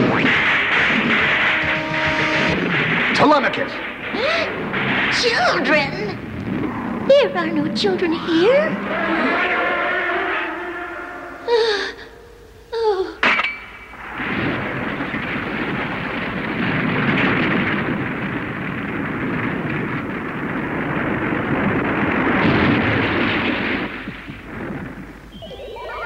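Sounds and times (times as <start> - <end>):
long rumbling crash: 0.0 - 11.5, 13.9 - 26.0.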